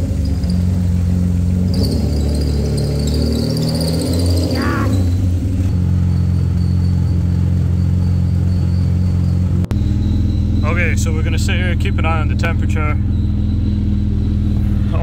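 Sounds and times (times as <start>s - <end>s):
car engine idling: 0.0s - 15.0s
high wavering squeak: 1.6s - 15.0s.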